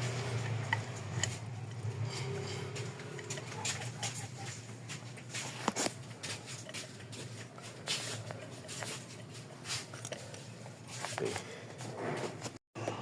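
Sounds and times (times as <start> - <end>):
clicks and rattles of engine parts: 0.0 - 13.0.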